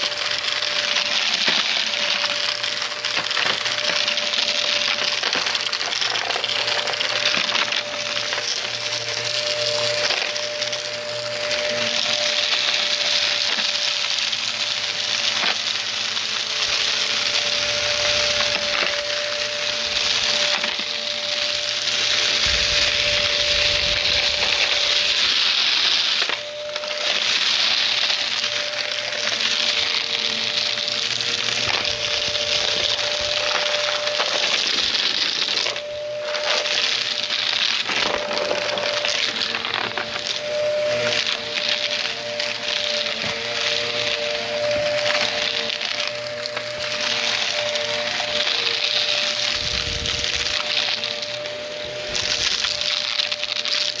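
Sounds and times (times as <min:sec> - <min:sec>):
debris crackling in vacuum: 0:00.0 - 0:54.0
vacuum cleaner running: 0:00.0 - 0:54.0.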